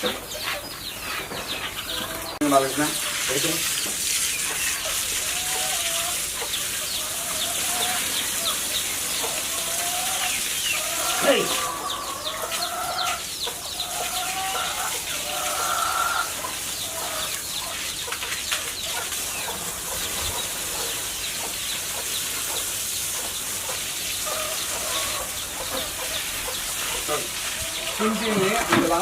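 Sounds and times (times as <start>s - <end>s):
chickens clucking and calling: 0.0s - 29.0s.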